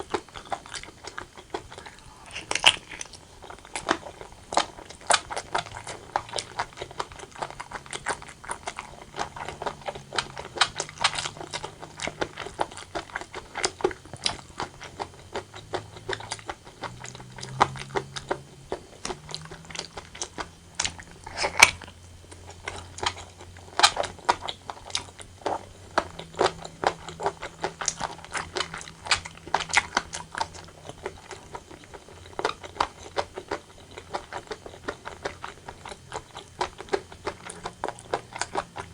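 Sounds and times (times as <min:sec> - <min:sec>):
chewing and mouth smacks: 0:00.0 - 0:38.9.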